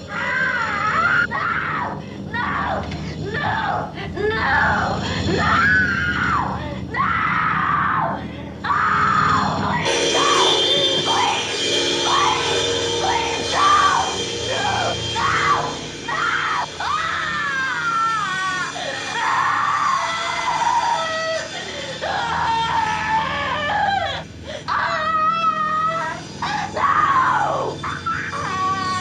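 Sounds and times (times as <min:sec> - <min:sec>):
film score: 0:00.0 - 0:29.0
woman screaming: 0:00.0 - 0:29.0.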